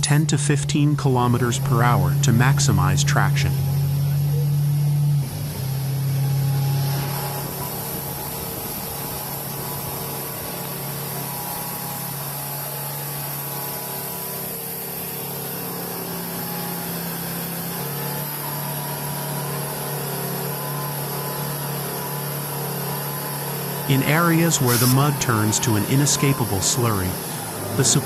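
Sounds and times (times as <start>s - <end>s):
truck diesel engine under load: 0.0s - 28.0s.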